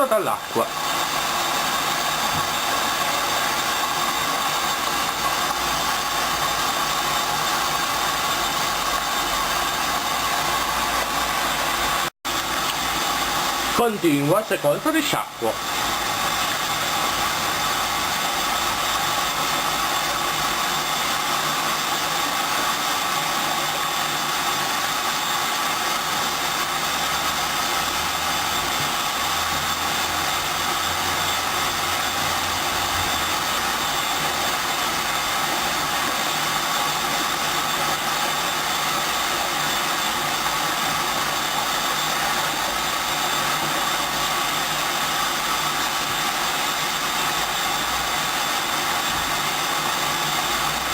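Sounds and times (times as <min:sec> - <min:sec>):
washing machine running: 0:00.0 - 0:50.9.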